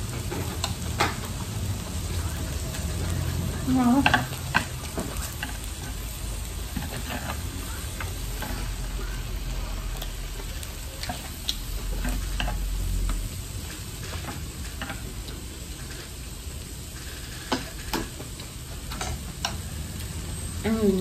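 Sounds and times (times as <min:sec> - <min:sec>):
meat sizzling on grill plate: 0:00.0 - 0:21.0.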